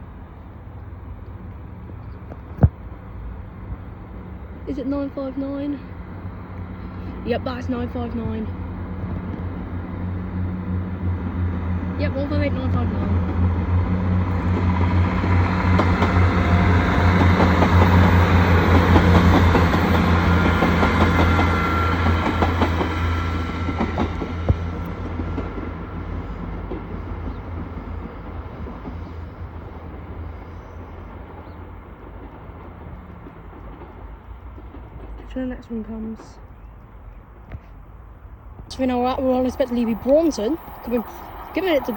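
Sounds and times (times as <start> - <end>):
train diesel engine drone: 0.0 - 41.9.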